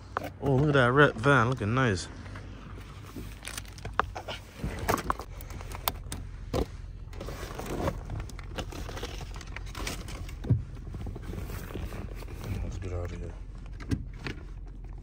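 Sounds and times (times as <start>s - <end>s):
handling clicks and rustles: 0.0s - 15.0s
low steady hum: 0.0s - 15.0s.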